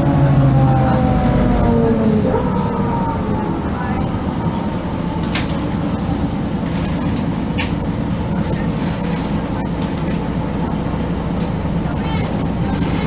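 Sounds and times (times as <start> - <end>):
diesel bus engine: 0.0 - 13.0
rolling rumble: 0.0 - 13.0.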